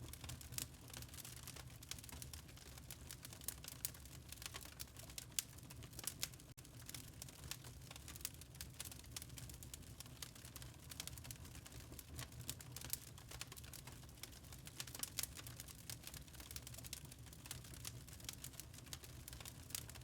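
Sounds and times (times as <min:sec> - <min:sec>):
log fire crackling: 0:00.0 - 0:20.0.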